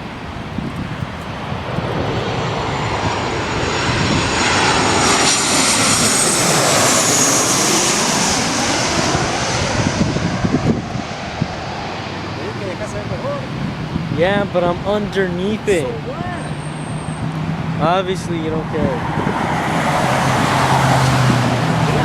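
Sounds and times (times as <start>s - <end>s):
jet airliner passing overhead: 0.0s - 22.0s.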